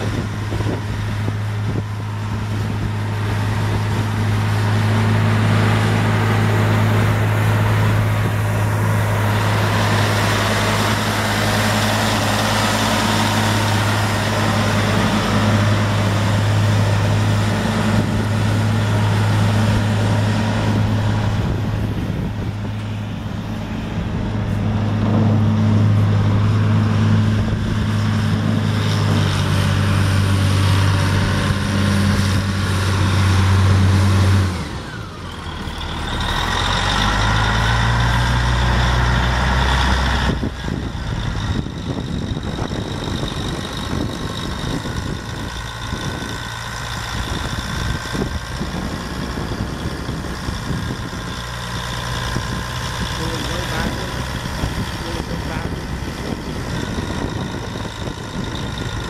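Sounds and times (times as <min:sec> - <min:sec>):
rising engine whine: 0:00.0 - 0:59.0
tractor diesel engine running: 0:00.0 - 0:59.0.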